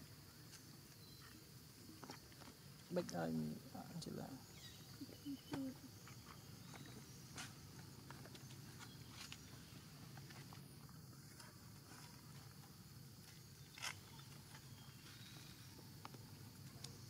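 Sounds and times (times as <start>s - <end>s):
high insect hum: 0.0s - 17.0s.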